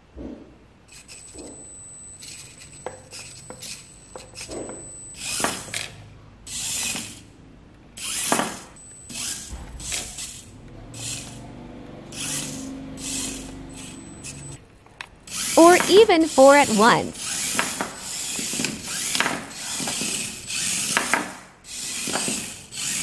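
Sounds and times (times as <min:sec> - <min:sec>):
toy car electric motors whirring: 0:00.9 - 0:07.4, 0:08.0 - 0:14.6, 0:15.2 - 0:23.0.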